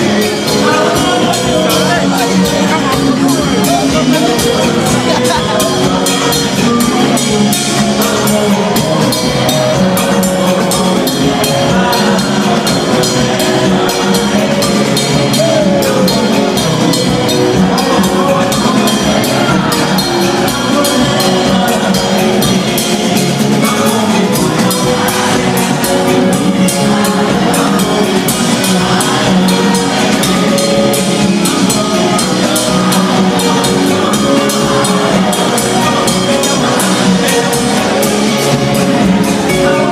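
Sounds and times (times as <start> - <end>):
drum kit beat: 0.0 - 39.9
keyboard chords: 0.0 - 39.9.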